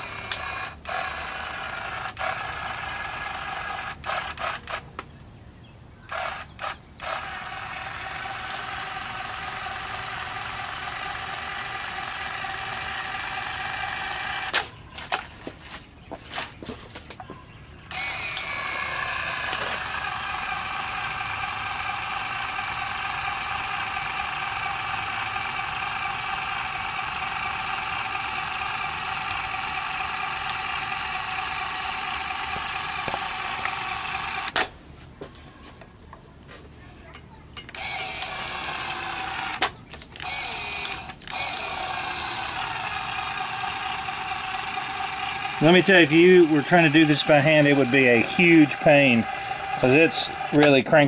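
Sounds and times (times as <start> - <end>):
electric caulk gun motor whining: 0.0 - 4.8, 6.1 - 15.2, 17.9 - 34.7, 37.7 - 51.0.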